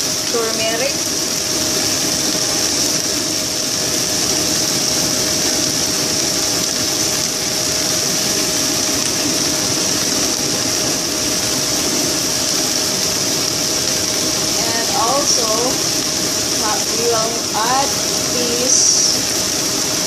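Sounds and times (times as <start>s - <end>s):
exhaust fan whooshing and humming: 0.0s - 20.0s.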